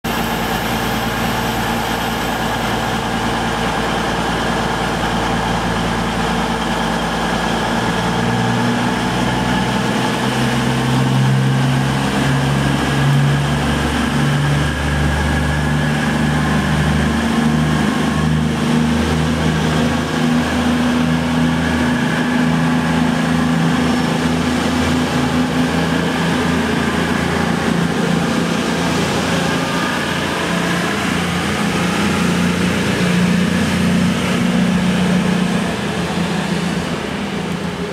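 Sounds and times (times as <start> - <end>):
diesel train engines: 0.0 - 37.9.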